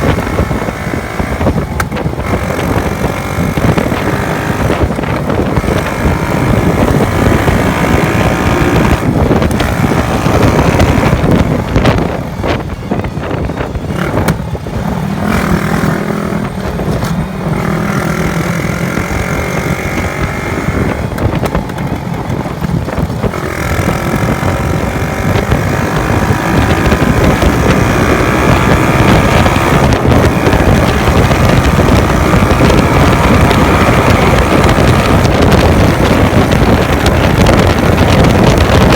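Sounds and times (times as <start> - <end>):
motorcycle engine running hard: 0.0 - 38.9
wind buffeting microphone: 0.0 - 38.9.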